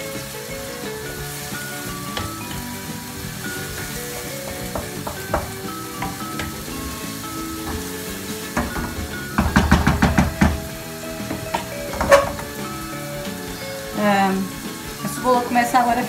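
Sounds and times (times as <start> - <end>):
background music: 0.0 - 16.0
onion sizzling in frying pan: 0.0 - 16.0
wooden spoon knocking on pan: 1.1 - 14.0.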